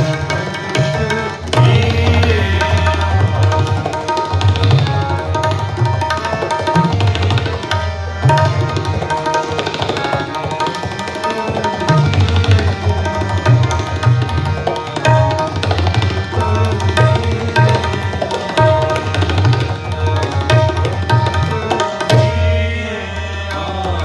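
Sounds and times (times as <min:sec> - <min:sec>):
tabla treble drum strokes: 0:00.0 - 0:22.6.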